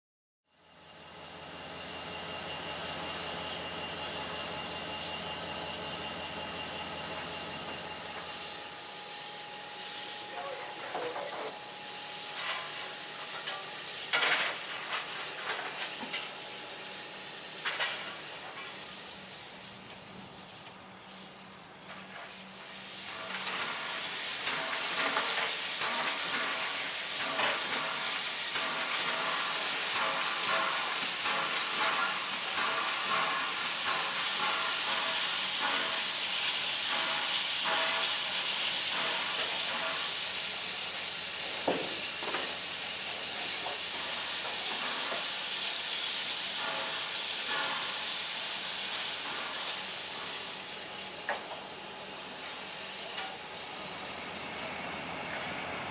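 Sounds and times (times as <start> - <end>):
steam locomotive hissing: 1.2 - 20.2, 21.4 - 55.9.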